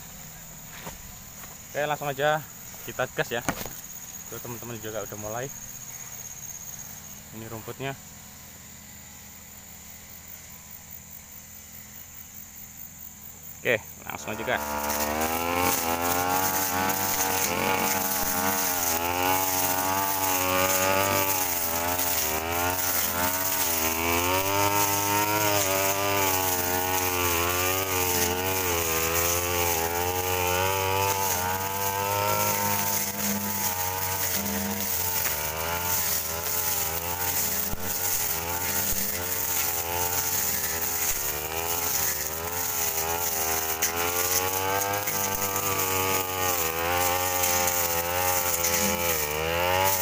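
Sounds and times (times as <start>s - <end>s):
brush cutter engine under load: 0.1s - 8.0s, 13.6s - 50.0s.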